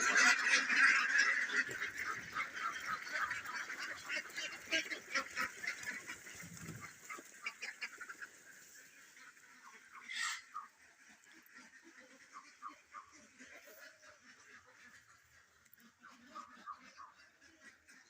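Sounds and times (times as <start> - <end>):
ducks quacking: 0.0 - 18.0.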